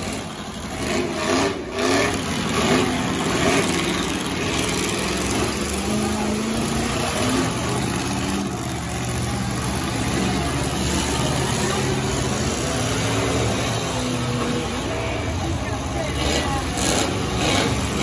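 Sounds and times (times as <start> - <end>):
crowd hubbub: 0.0 - 18.0
truck engines revving: 0.0 - 18.0.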